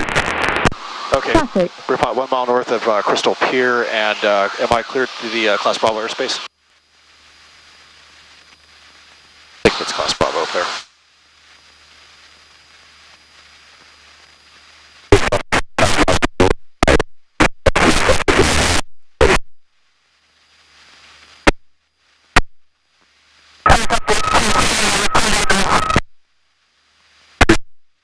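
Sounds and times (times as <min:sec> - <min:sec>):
crackling radio static: 0:00.0 - 0:28.0
faint hiss: 0:00.1 - 0:16.2, 0:19.8 - 0:27.4.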